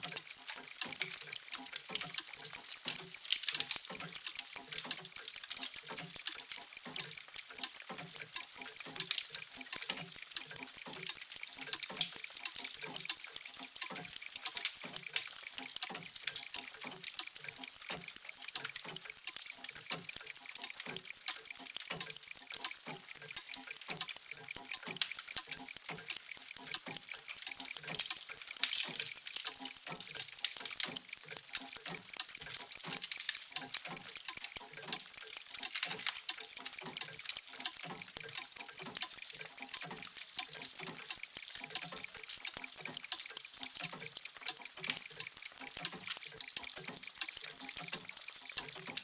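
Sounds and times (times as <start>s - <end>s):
mechanical clocks ticking: 0.0s - 49.0s.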